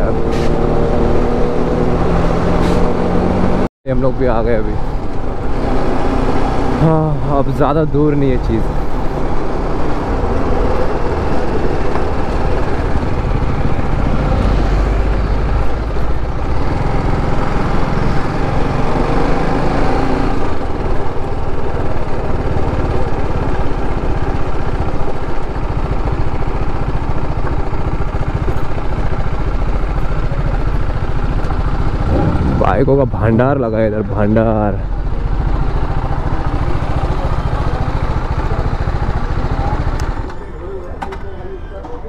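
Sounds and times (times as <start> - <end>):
wind and road noise: 0.0 - 42.0
motorcycle engine running: 4.8 - 41.0.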